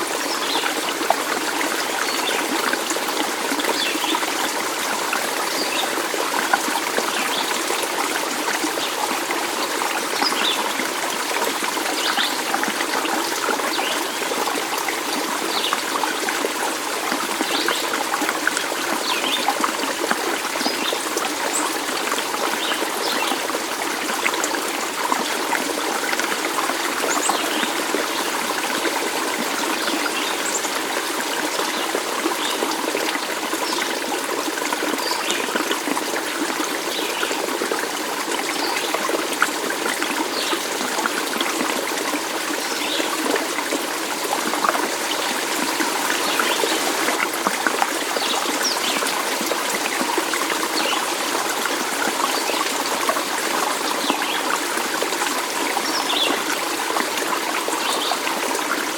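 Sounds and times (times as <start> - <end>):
stream water babbling: 0.0 - 58.9.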